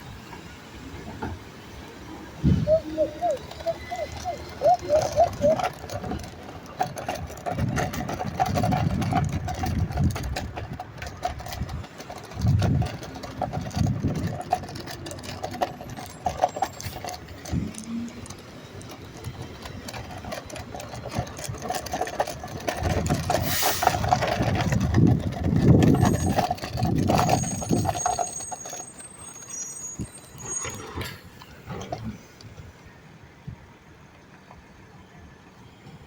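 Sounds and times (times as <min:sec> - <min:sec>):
garbage truck diesel engine: 0:00.0 - 0:34.0.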